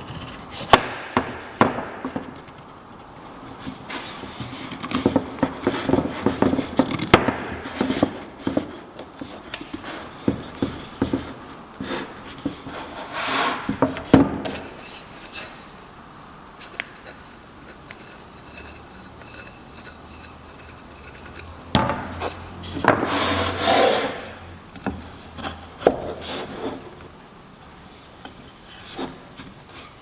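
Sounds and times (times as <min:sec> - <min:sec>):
wooden parts and tools knocking: 0:00.0 - 0:14.9, 0:17.0 - 0:26.3.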